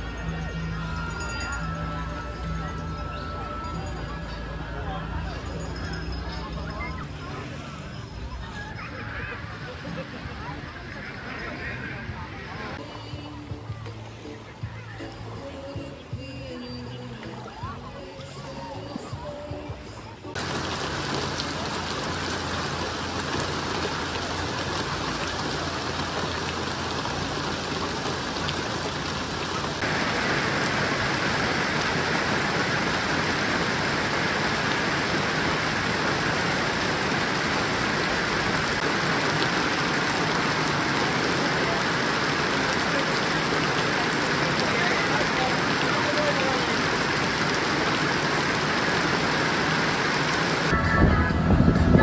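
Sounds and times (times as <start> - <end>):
rain pouring: 0.0 - 12.9, 20.3 - 52.0.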